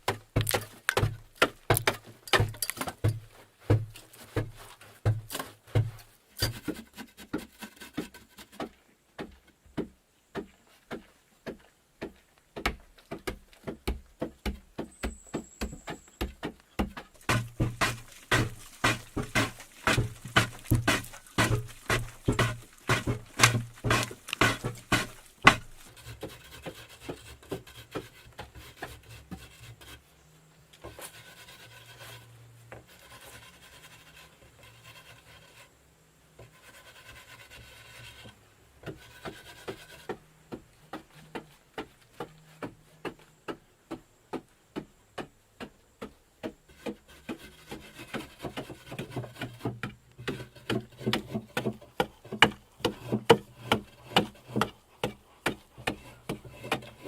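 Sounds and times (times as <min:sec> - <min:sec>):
hand tool scraping wood: 0:00.0 - 0:09.4, 0:10.4 - 0:30.2, 0:30.8 - 0:35.7, 0:36.4 - 0:57.0.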